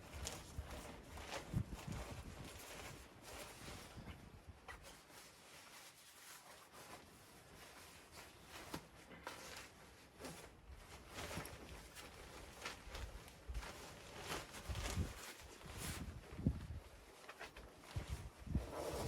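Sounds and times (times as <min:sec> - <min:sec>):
faint clicks and handling noise: 0:00.0 - 0:18.4.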